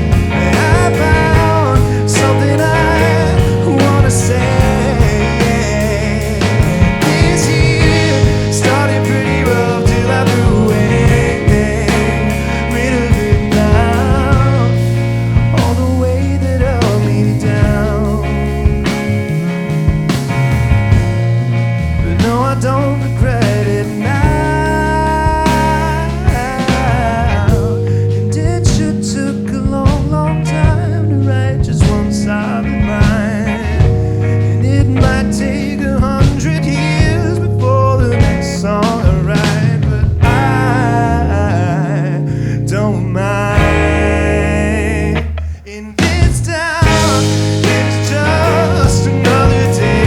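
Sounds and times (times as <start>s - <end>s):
drums: 0.0s - 50.0s
electric guitar: 0.0s - 50.0s
sustained bass line: 0.0s - 50.0s.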